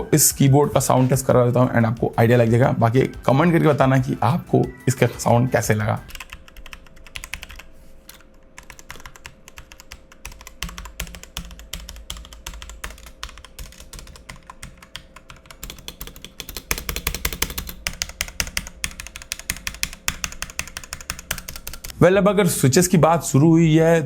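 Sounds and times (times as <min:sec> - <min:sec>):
fast mechanical keyboard typing: 0:00.0 - 0:05.0, 0:05.6 - 0:21.9.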